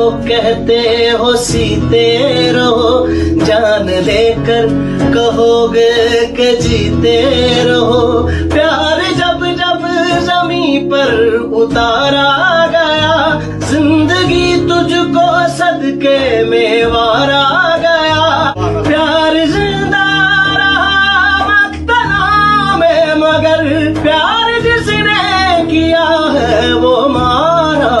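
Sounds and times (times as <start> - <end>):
instrumental accompaniment: 0.0 - 28.0.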